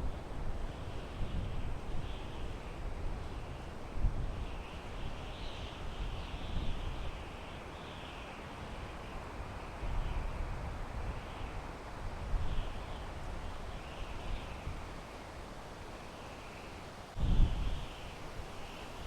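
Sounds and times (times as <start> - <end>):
wind through pine trees: 0.0 - 19.0.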